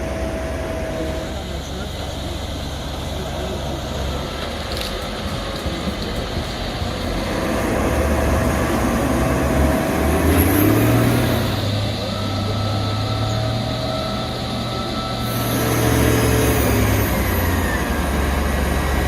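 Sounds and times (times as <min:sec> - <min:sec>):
heavy machine engine drone: 0:00.0 - 0:19.0.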